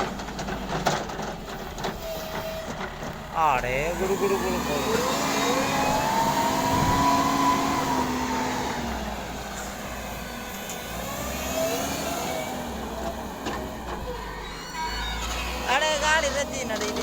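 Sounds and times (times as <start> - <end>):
heavy vehicle engine running: 0.0 - 17.0.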